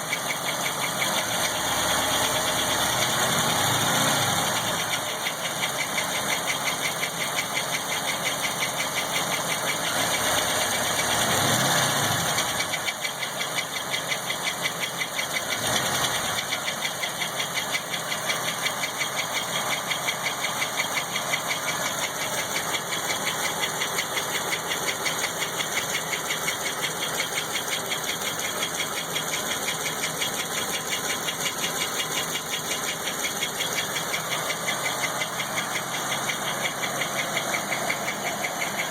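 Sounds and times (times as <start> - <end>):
engine idling with ticking knock: 0.0 - 38.9.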